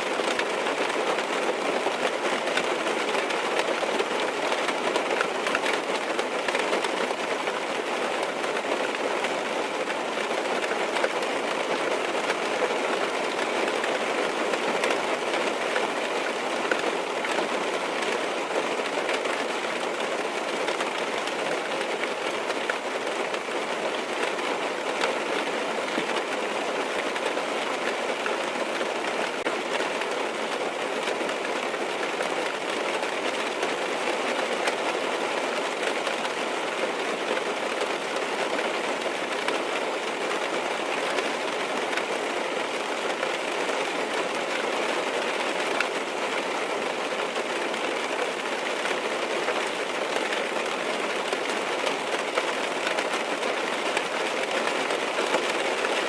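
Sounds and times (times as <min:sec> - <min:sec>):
rain on a car roof: 0:00.0 - 0:56.0.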